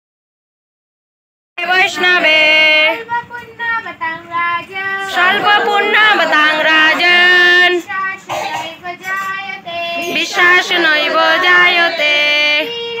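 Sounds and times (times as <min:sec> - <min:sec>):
woman singing: 0:01.6 - 0:13.0.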